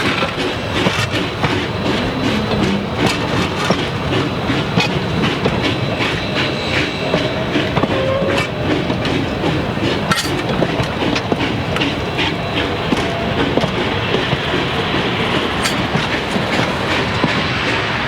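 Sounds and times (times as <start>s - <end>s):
train wheels clicking over rail joints: 0.0s - 18.0s.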